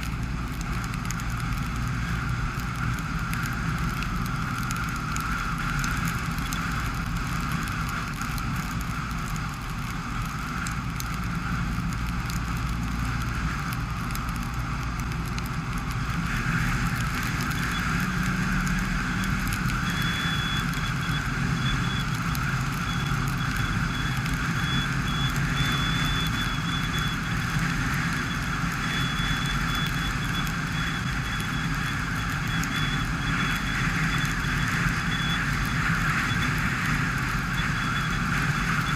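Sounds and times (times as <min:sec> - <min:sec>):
car engine hum: 0:00.0 - 0:38.9
tyres hissing on wet road: 0:00.0 - 0:38.9.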